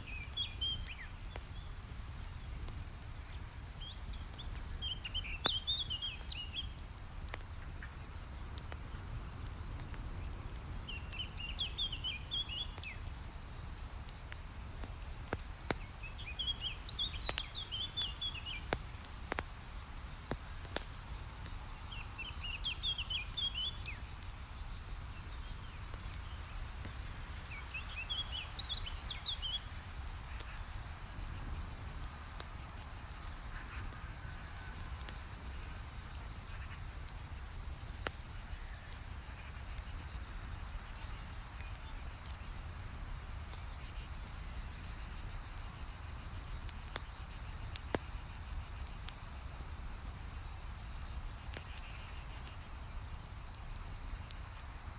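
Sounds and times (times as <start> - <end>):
campfire crackling and popping: 0.0 - 54.9
insects chirring: 0.0 - 54.9.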